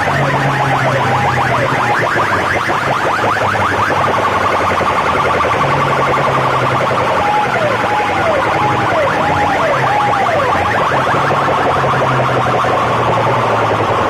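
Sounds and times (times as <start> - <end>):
rapid rising siren chirps: 0.0 - 14.0
wailing siren tone: 0.0 - 14.0.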